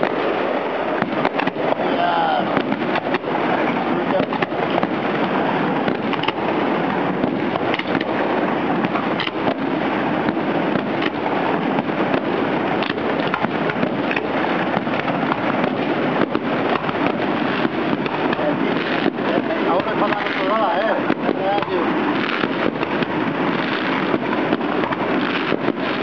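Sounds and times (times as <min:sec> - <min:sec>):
fireworks crackling and rumbling: 0:00.0 - 0:26.0
fireworks sharp bangs: 0:00.0 - 0:26.0.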